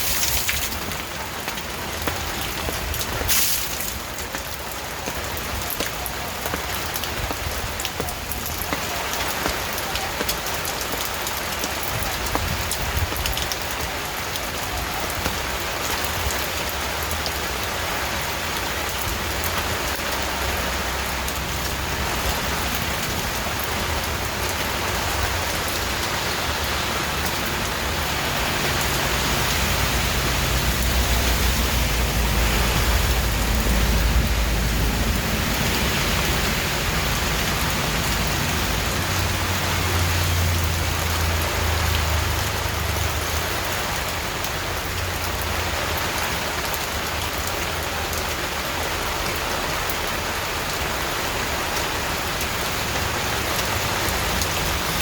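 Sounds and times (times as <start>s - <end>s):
raindrops hitting a surface: 0.0s - 55.0s.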